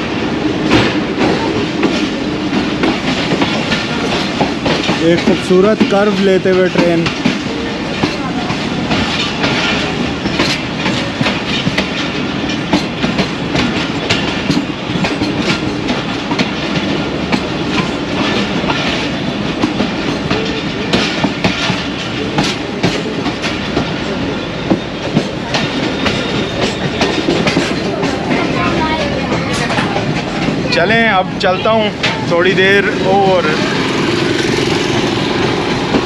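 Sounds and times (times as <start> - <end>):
train rolling rumble: 0.0 - 36.0
train wheels clattering over joints: 0.4 - 36.0.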